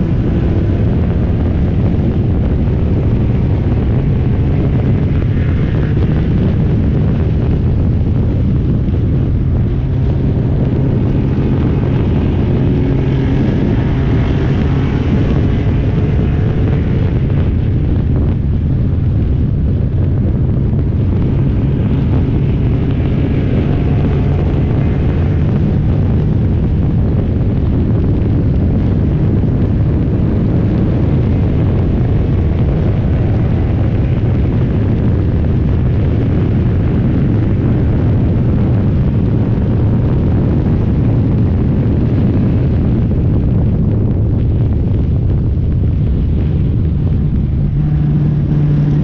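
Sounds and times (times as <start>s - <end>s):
race car engine rumbling: 0.0s - 49.0s
wind buffeting microphone: 0.0s - 49.0s.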